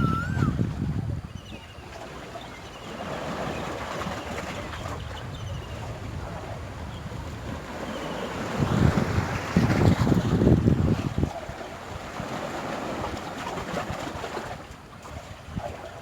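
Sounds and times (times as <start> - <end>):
wind buffeting microphone: 0.0 - 2.3, 3.0 - 16.0.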